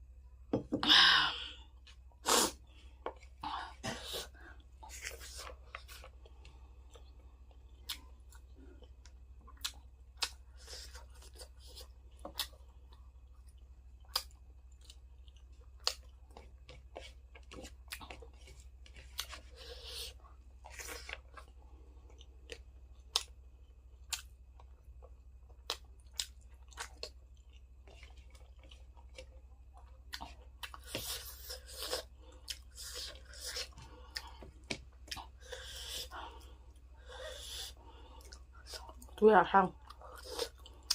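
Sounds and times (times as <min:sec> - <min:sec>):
chewing and crunching food: 0:01.8 - 0:40.9.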